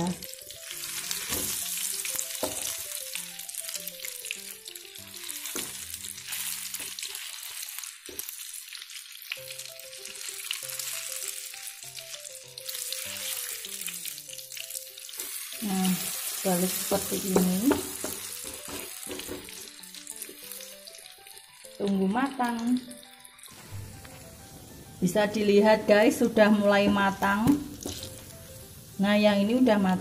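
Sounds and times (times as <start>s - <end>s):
food sizzling in hot oil: 0.0s - 30.0s
light background music: 0.0s - 30.0s.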